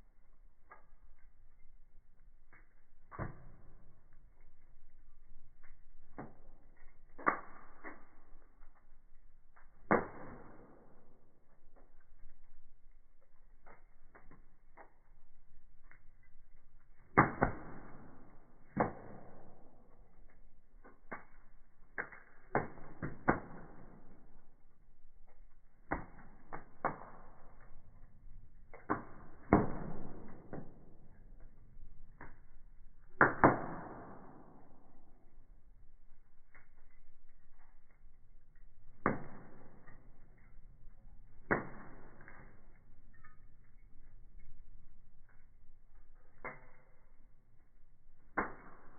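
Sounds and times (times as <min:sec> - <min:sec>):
firewood crackling and popping: 0:00.0 - 0:48.9.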